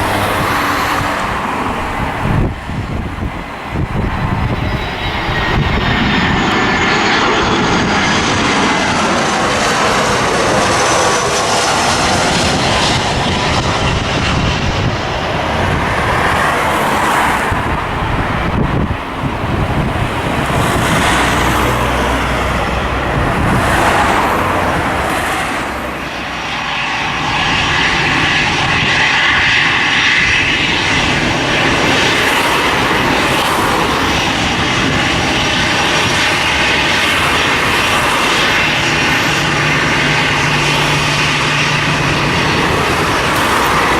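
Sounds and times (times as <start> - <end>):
airliner engines roaring and whining: 0.0 - 43.9.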